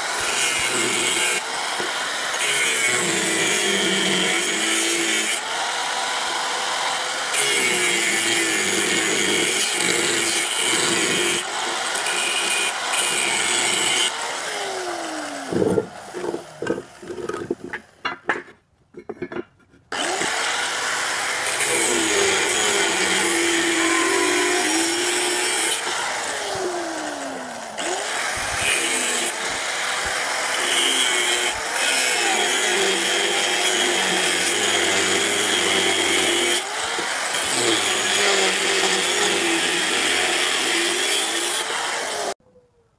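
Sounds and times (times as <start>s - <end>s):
grinder motor whine: 0.0s - 18.1s, 19.9s - 42.4s
angle grinder grinding steel: 0.0s - 42.4s.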